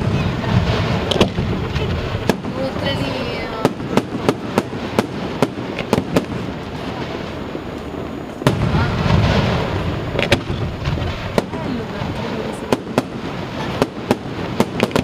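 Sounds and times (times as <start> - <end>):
firework bangs: 0.0 - 15.0
fireworks rumble and crackle: 0.0 - 15.0.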